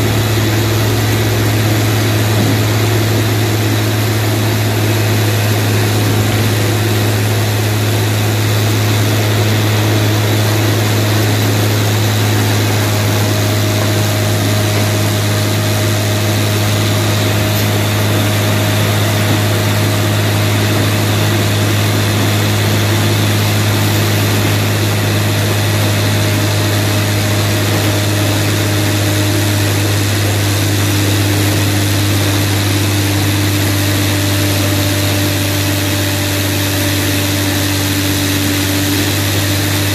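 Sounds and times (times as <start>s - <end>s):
hydraulic power unit drone: 0.0s - 39.9s.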